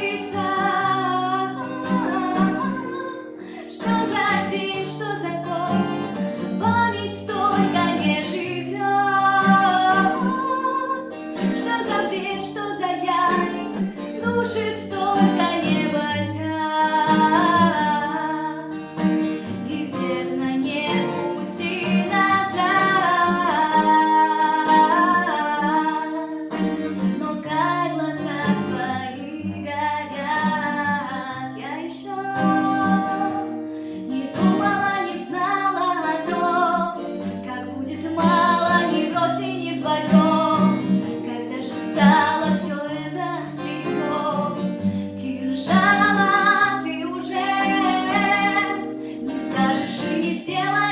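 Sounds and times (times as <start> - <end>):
plucked acoustic guitar: 0.0 - 50.9
woman singing: 0.0 - 50.9.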